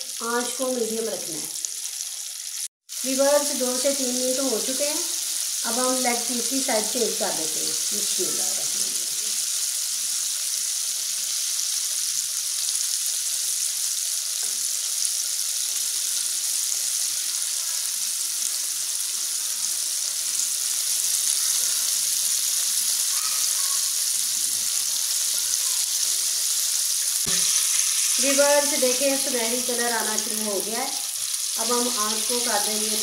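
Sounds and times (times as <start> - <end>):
chicken deep-frying in oil: 0.0 - 33.0.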